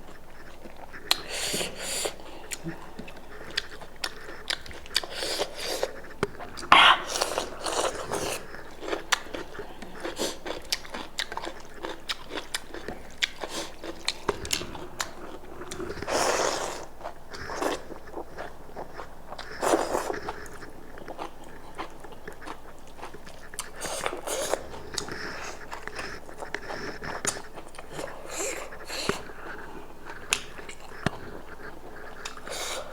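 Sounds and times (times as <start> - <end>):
wet chewing and biting: 0.1 - 32.9.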